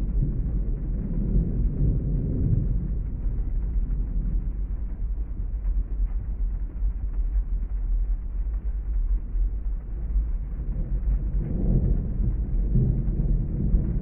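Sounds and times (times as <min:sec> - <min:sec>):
rain on car roof rumble: 0:00.0 - 0:14.0
raindrop ticks: 0:00.0 - 0:14.0.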